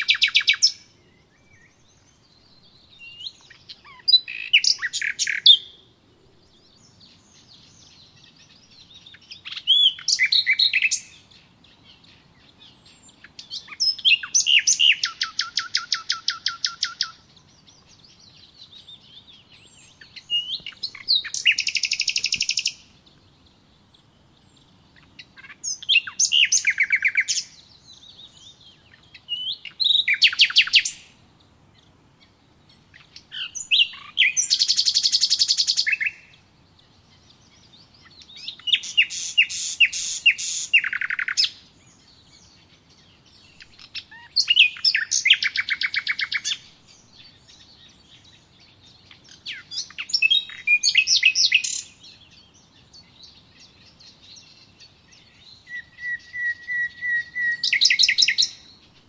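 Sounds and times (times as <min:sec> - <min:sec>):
songbird trilling: 0:00.0 - 0:05.9, 0:06.6 - 0:59.0
faint bird chirps: 0:00.0 - 0:59.0.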